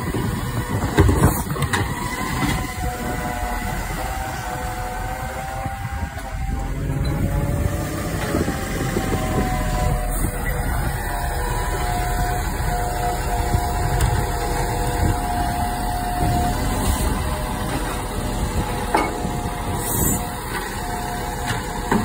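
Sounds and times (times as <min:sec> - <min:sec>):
hydraulic whine: 0:00.0 - 0:22.0
truck engine rumbling: 0:00.0 - 0:22.0.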